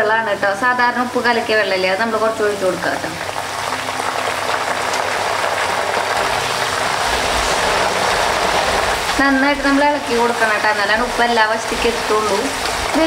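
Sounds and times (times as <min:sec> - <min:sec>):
frying oil sizzling: 0:00.0 - 0:13.0.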